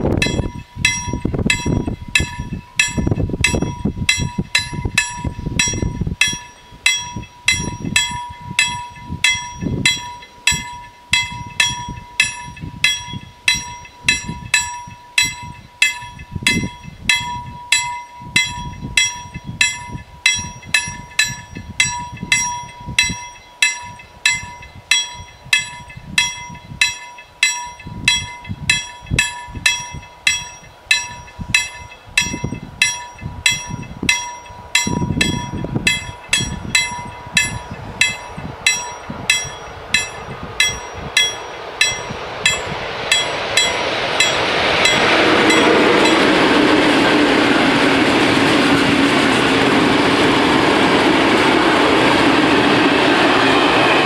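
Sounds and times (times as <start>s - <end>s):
level-crossing warning bell: 0.0s - 54.0s
steady high tone: 0.0s - 54.0s.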